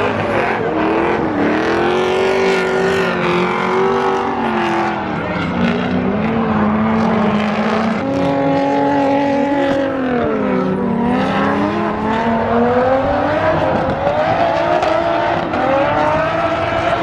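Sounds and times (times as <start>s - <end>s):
car engine revving: 0.0s - 17.0s
tyre and road noise: 0.0s - 17.0s.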